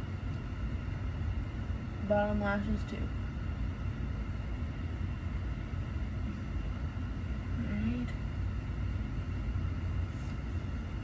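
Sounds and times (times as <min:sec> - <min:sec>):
room noise rumble and hiss: 0:00.0 - 0:11.0.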